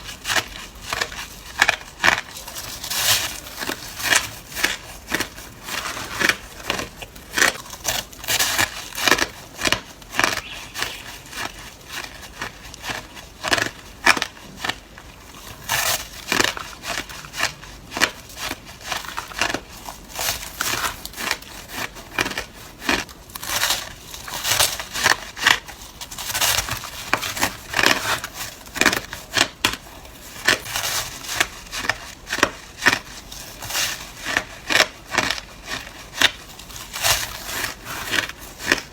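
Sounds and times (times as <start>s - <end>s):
ice being crunched by teeth: 0.0s - 38.9s.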